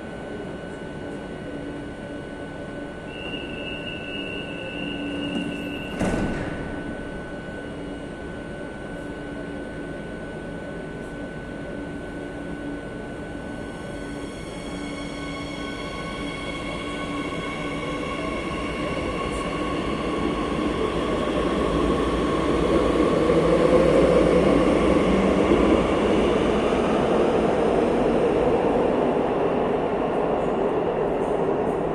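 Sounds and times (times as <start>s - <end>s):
high whine of train: 0.0s - 31.9s
metro train running: 0.0s - 31.9s.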